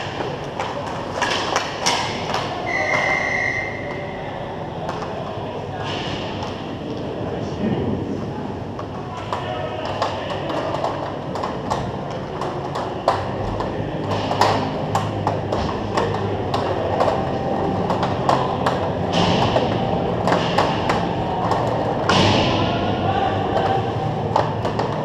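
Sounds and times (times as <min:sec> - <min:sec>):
hockey sticks and puck clacking: 0:00.0 - 0:04.1, 0:04.8 - 0:07.1, 0:08.8 - 0:25.0.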